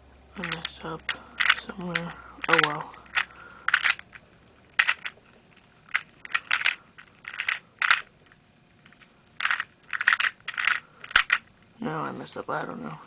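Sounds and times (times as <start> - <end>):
puzzle cube clicking and rattling: 0.4 - 11.5.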